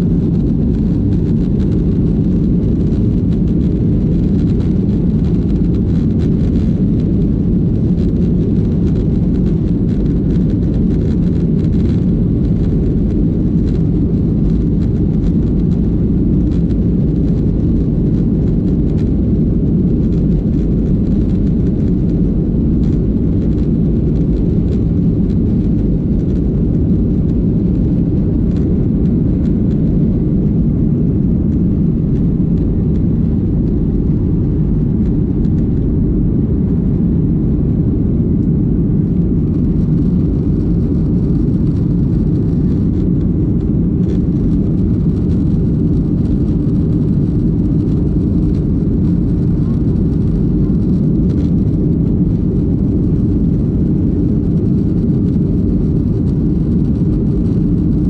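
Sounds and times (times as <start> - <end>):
jet engine rumble in cabin: 0.0 - 58.0.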